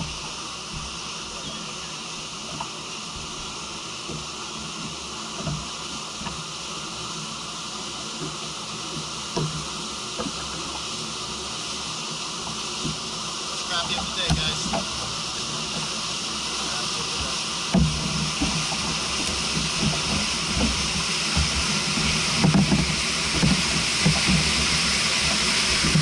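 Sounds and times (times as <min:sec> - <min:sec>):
water slapping against kayak hull: 0:00.0 - 0:26.0.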